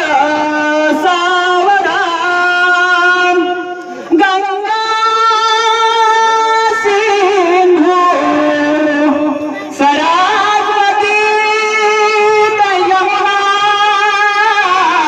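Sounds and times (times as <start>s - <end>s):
person singing long notes: 0.0s - 15.0s.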